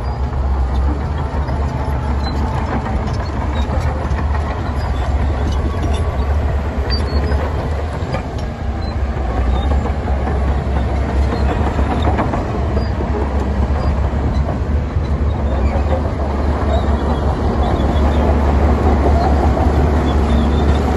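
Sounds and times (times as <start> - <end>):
diesel machinery engine drone: 0.0 - 20.9
machinery clatter: 0.0 - 20.9.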